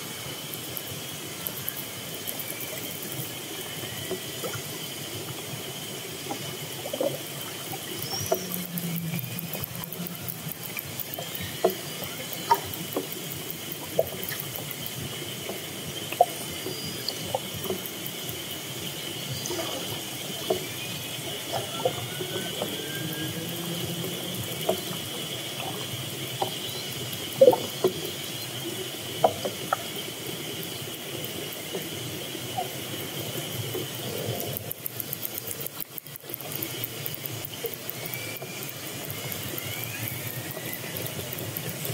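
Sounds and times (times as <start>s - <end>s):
steady high hum: 0.0s - 41.9s.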